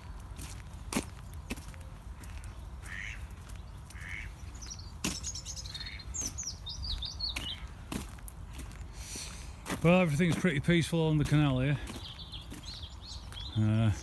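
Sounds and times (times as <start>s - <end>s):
songbird chirping: 0.0s - 14.0s
soft bird calls: 0.5s - 14.0s.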